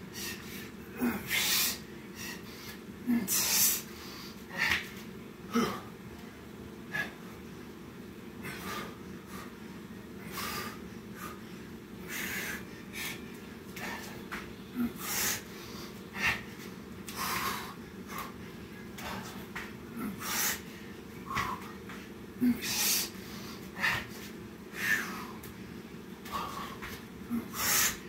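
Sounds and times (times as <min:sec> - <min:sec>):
man breathing hard: 0:00.0 - 0:07.5, 0:08.4 - 0:28.0.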